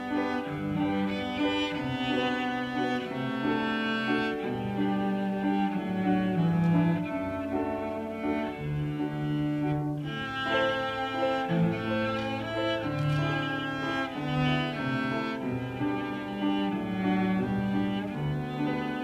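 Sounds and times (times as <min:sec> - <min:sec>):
cello bowed melody: 0:00.0 - 0:19.0
grand piano: 0:00.0 - 0:19.0.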